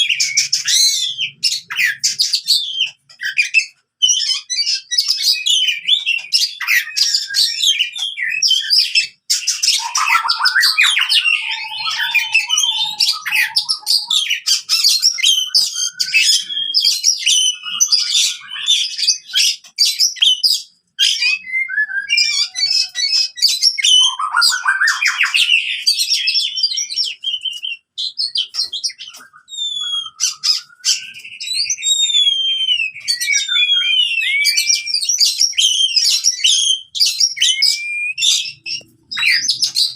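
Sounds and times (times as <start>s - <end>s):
bird singing rapid chirps and trills: 0.0s - 39.9s.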